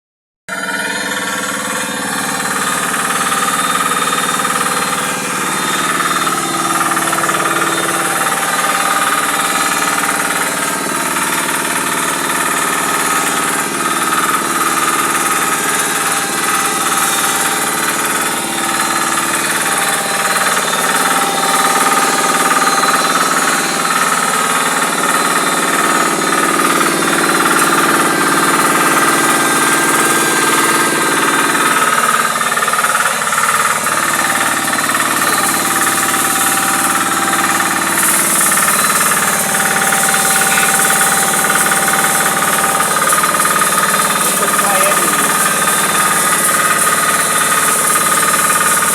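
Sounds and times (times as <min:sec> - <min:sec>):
crushing mill grinding: 0:00.5 - 0:48.9
motor hum: 0:00.5 - 0:48.9.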